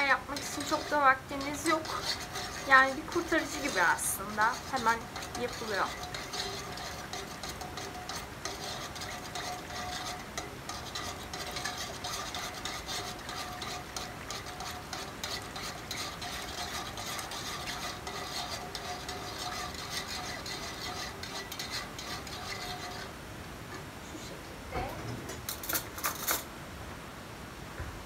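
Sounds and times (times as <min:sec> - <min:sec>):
whisk scraping against a pot: 0:00.0 - 0:24.4.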